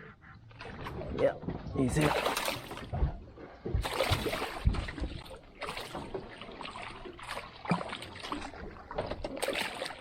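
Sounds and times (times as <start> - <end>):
water splashing: 0.4 - 10.0.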